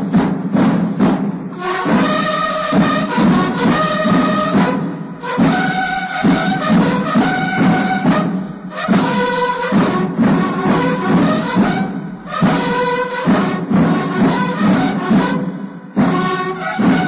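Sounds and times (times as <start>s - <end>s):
brass band with drums: 0.0s - 17.0s.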